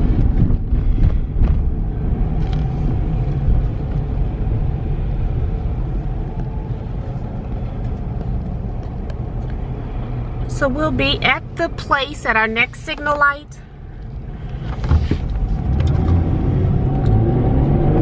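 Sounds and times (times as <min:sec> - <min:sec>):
car engine rumble: 0:00.0 - 0:18.0
road noise inside car: 0:00.0 - 0:18.0.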